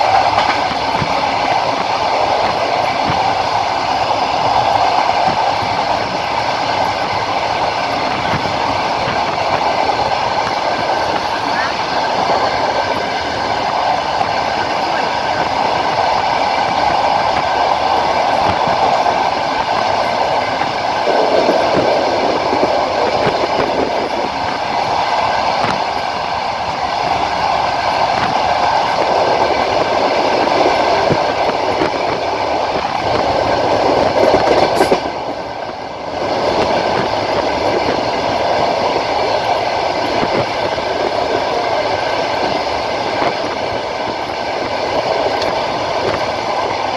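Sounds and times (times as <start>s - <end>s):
train hum: 0.0s - 46.9s
train wheels clattering on rails: 0.0s - 46.9s.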